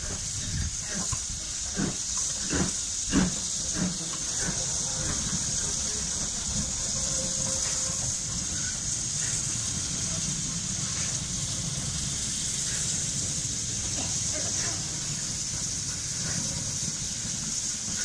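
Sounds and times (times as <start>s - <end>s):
steam hissing: 0.0s - 18.0s
steam locomotive exhaust chuffs: 0.0s - 18.0s
train rolling rumble: 0.0s - 18.0s.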